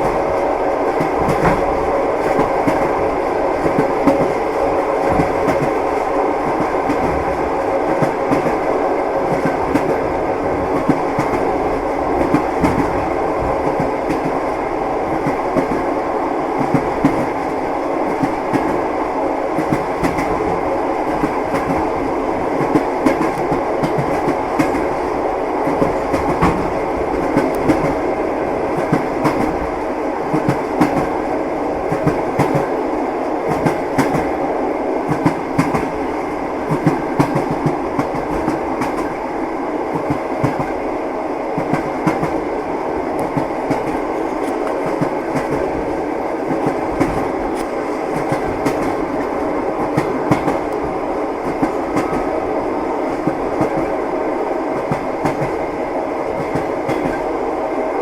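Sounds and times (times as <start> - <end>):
train wheels clickety-clack: 0.0 - 15.9, 16.5 - 34.4, 35.0 - 39.3, 39.9 - 40.8, 41.5 - 54.0, 54.7 - 57.4
railway carriage rumble: 0.0 - 58.0.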